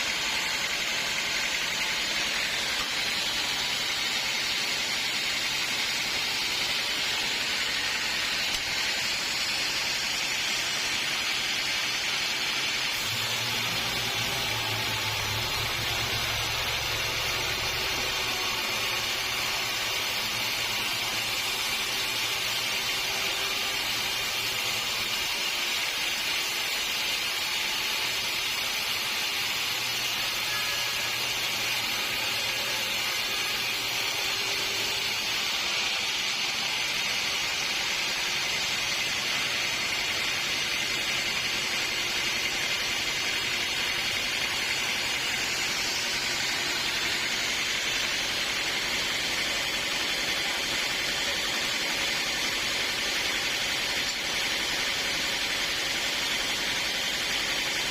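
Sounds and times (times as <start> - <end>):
saw blade cutting log: 0.0 - 57.9.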